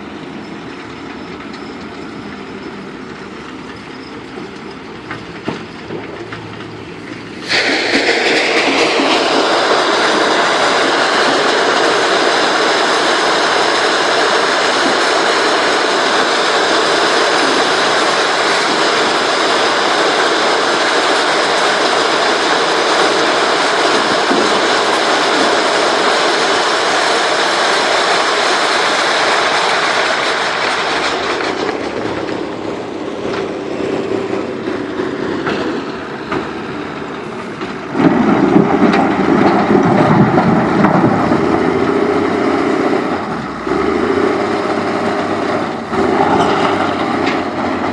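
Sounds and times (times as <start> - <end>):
heavy machinery clattering and rumbling: 0.0 - 47.9.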